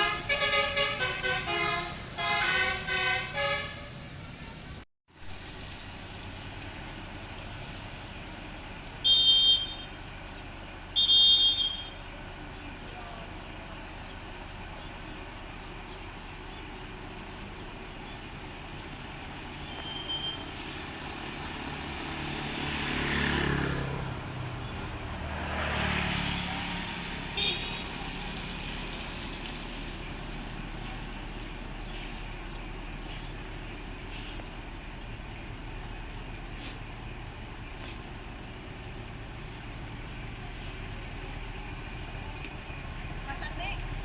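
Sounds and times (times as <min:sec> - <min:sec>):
steady traffic hum: 0:00.0 - 0:44.0
vehicles passing by: 0:00.0 - 0:44.0.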